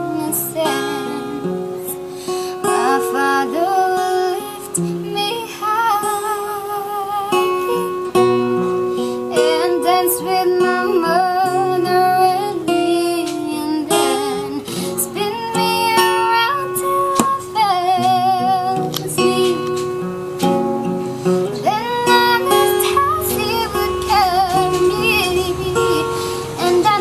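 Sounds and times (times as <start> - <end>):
child singing with vibrato: 0.0 - 8.2, 9.2 - 20.1, 21.6 - 27.0
acoustic guitar: 0.0 - 27.0.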